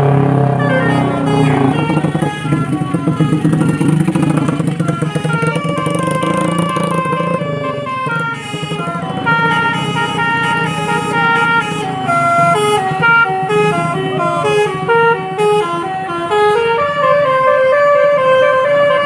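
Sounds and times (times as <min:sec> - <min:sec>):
bus engine humming: 0:00.0 - 0:19.0
bus musical horn playing tune: 0:00.0 - 0:19.0.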